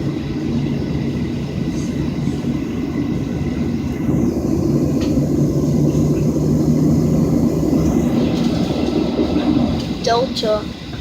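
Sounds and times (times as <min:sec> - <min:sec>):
jet engine cabin rumble: 0:00.0 - 0:11.0
low hum: 0:00.0 - 0:11.0.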